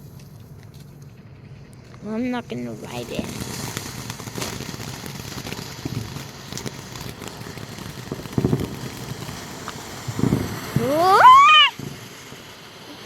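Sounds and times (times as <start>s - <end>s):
firework fizzing and crackling: 0.0s - 13.0s.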